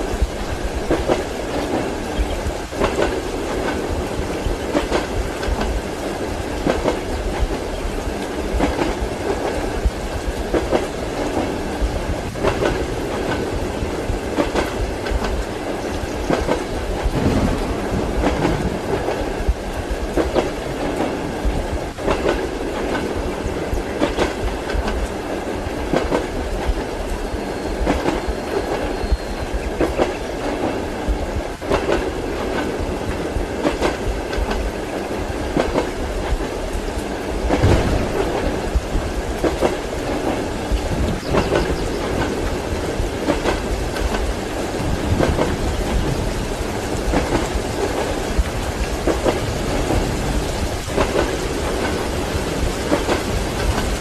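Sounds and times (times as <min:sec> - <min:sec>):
wheels clacking over rail joints: 0:00.0 - 0:21.2, 0:21.9 - 0:25.2, 0:31.6 - 0:54.0
railway carriage rumble: 0:00.0 - 0:54.0.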